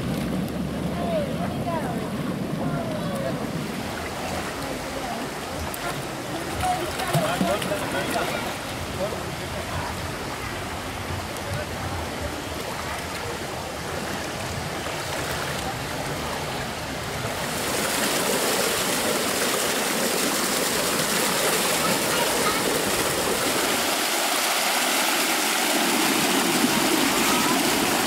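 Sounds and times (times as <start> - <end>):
water rushing in fountain channel: 0.0 - 28.0.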